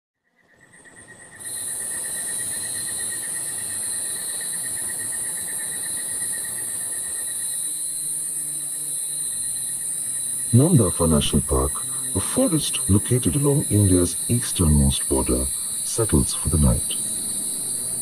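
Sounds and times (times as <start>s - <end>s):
rapidly pulsing insect trill: 0.3s - 18.0s
continuous high buzz: 1.5s - 18.0s.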